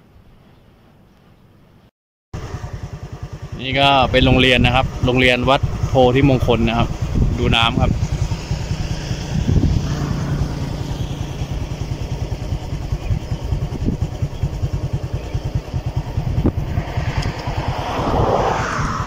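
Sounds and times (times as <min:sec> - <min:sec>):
small engine idling: 0:02.4 - 0:17.9.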